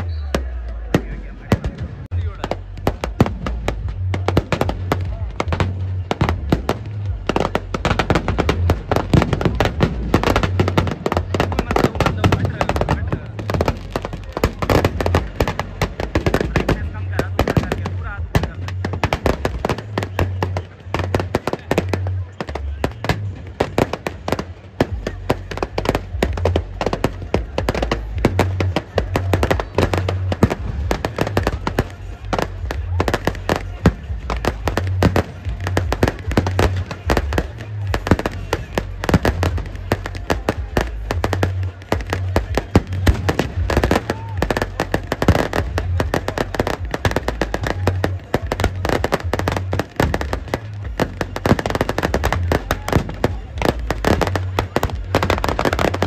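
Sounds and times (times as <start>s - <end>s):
firecrackers bursting: 0.0s - 56.0s.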